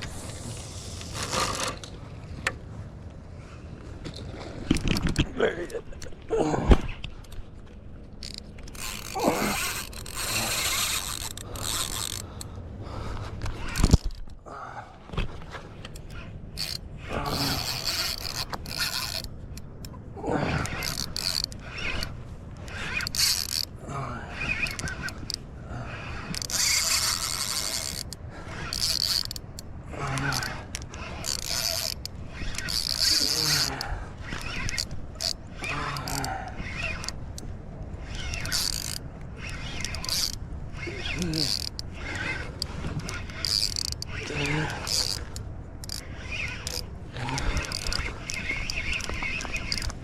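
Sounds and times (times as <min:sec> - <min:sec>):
fishing reel ratcheting whir: 0:00.0 - 0:02.0, 0:08.1 - 0:12.6, 0:13.4 - 0:14.4, 0:15.9 - 0:50.0.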